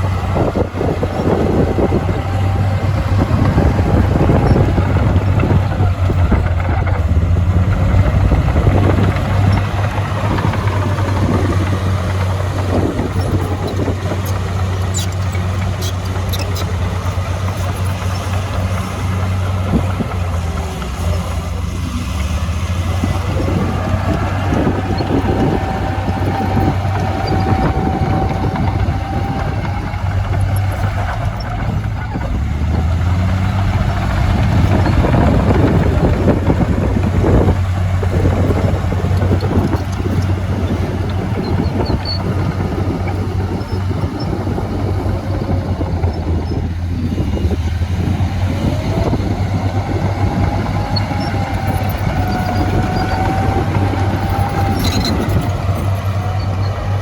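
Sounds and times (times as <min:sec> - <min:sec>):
bulldozer diesel engine droning: 0:00.0 - 0:57.0
rattling and clanking: 0:00.0 - 0:57.0.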